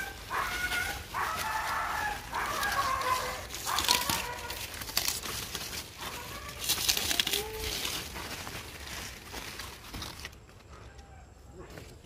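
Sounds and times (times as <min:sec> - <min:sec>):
leaves and vines rustling: 0:00.0 - 0:12.0.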